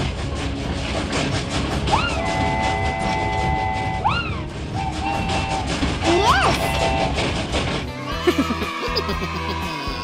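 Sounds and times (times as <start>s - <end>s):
cartoon train clickety-clack: 0.0s - 10.0s.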